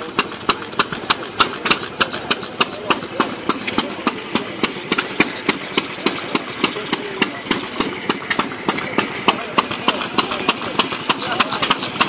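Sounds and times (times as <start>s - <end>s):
vintage engine running slowly: 0.0s - 12.0s.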